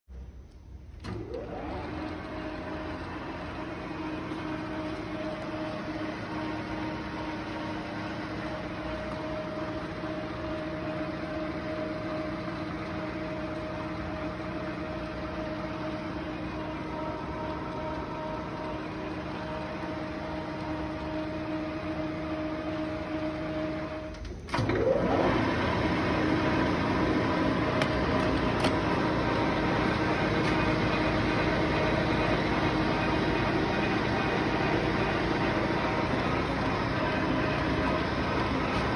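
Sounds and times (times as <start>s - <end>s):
lathe running with a hum: 0.9s - 38.9s.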